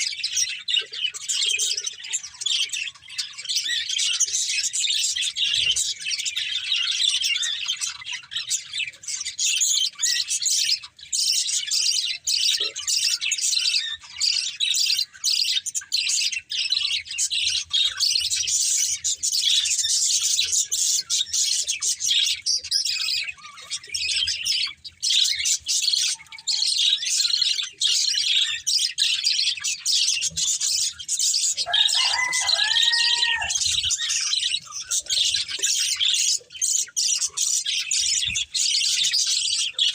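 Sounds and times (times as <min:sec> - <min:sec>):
budgerigars chirping and twittering: 0:00.0 - 0:39.9.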